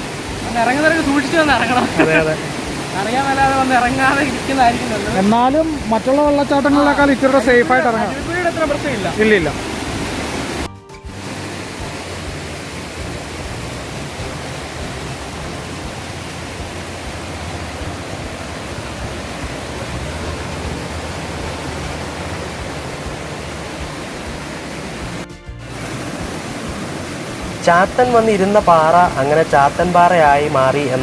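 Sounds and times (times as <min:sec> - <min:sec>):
small waterfall rushing: 0:00.0 - 0:31.0.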